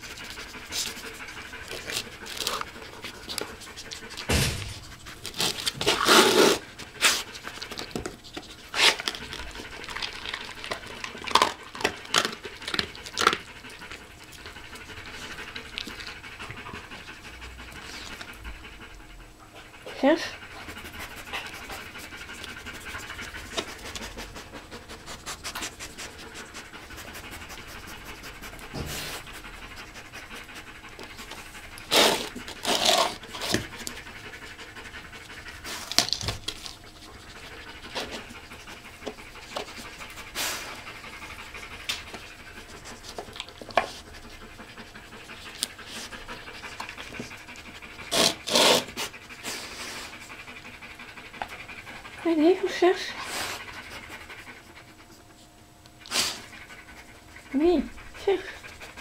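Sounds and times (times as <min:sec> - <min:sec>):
dog panting: 0:00.0 - 0:59.0.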